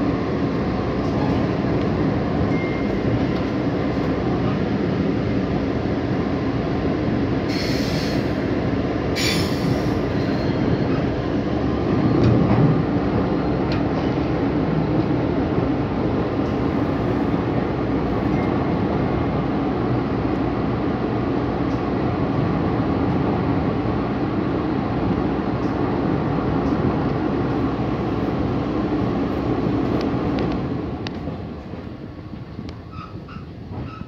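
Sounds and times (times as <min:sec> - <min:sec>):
train running with rumble and hum: 0:00.0 - 0:34.0.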